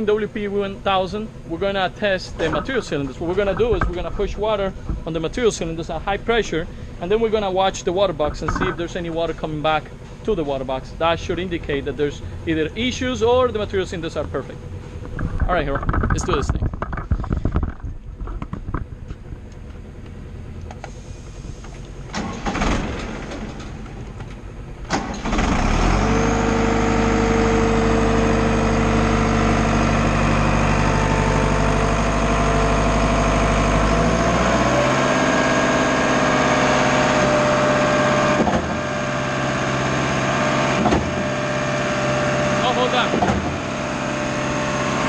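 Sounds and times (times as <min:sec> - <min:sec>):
concrete pump engine running: 0:00.0 - 0:45.0.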